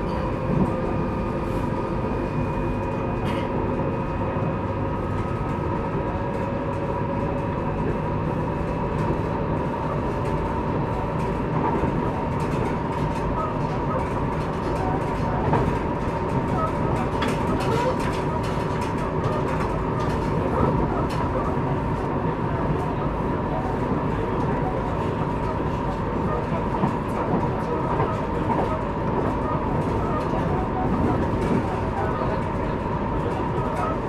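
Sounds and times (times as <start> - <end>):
train running gear rumble: 0.0 - 34.0.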